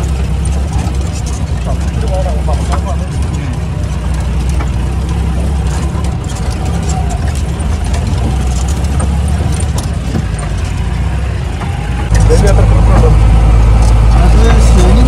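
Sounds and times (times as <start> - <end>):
jeep engine running: 0.0 - 15.0
light rattles and knocks: 0.0 - 15.0.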